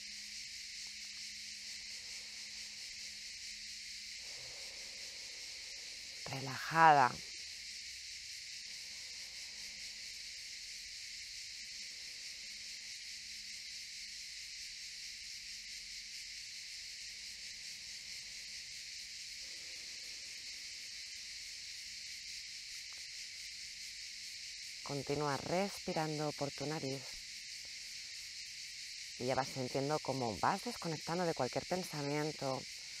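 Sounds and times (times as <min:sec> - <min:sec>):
cicadas droning: 0:00.0 - 0:33.0.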